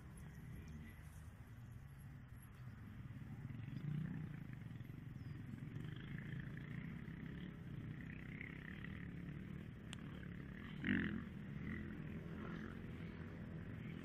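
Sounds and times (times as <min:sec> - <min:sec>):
distant motorcycle engines droning: 0:00.0 - 0:14.0.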